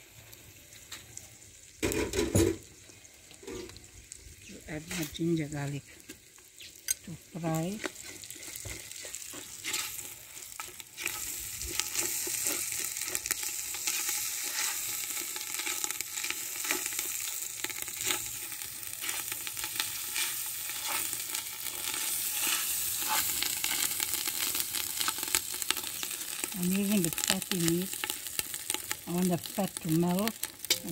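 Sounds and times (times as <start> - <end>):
food sizzling in hot oil: 0.0 - 30.9.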